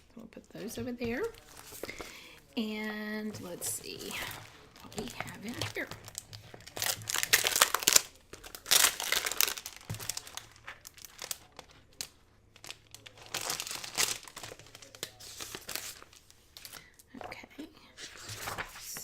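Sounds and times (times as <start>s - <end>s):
packaging crinkling and rustling: 1.1s - 2.6s, 3.2s - 17.0s, 18.1s - 19.0s.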